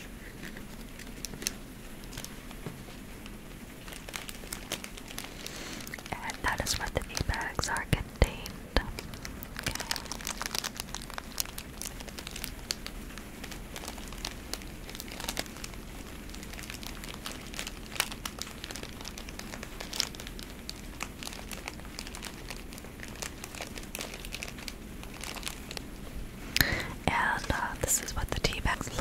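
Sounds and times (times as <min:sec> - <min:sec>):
plastic wrap crinkling: 0:00.0 - 0:29.0.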